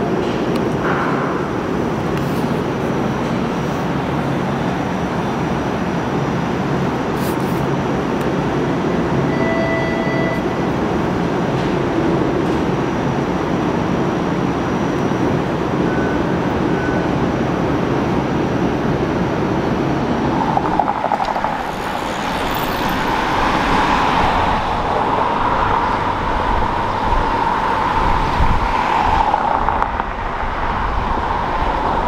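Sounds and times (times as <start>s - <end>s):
streetcar hum and rumble: 0.0s - 32.0s.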